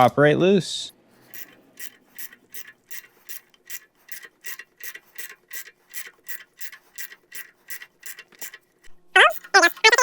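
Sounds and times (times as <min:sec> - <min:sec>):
ratchet wrench clicking: 0:01.3 - 0:10.0.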